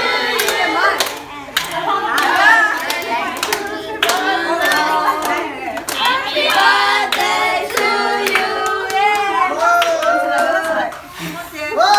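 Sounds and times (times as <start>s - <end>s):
children and women singing: 0.0s - 11.9s
hands clapping: 0.3s - 11.1s.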